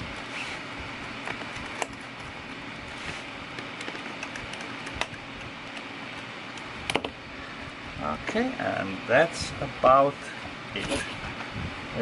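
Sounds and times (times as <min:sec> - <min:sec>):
steady background hiss: 0:01.7 - 0:12.0.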